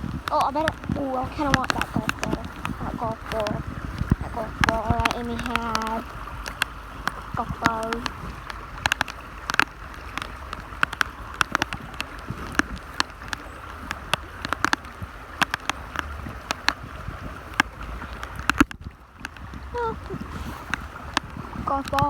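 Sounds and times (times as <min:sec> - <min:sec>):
fast-running water rushing: 0:00.0 - 0:22.0
raindrops tapping: 0:00.0 - 0:22.0.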